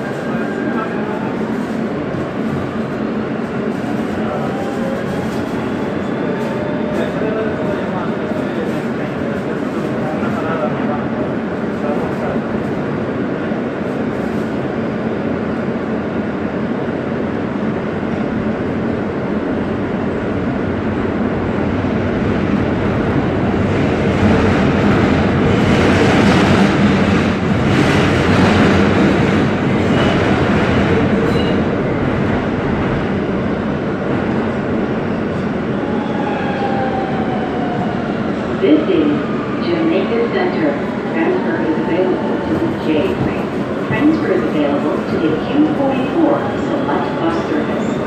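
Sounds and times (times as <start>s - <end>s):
subway train wheels rumbling: 0.0s - 48.0s.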